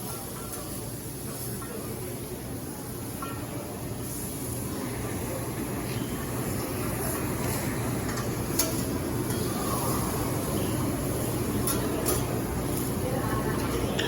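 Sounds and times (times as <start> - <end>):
low rumble of kitchen: 0.0 - 14.0.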